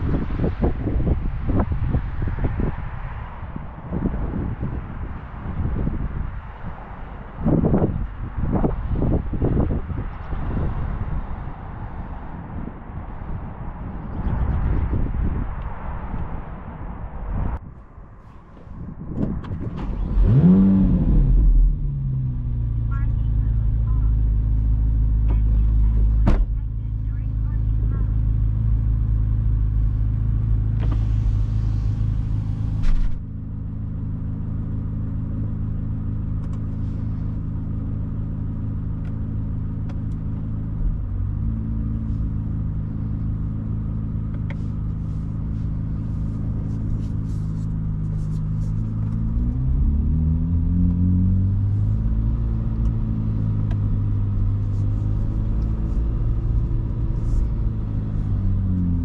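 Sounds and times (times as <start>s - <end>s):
car engine cruising: 0.0s - 59.0s.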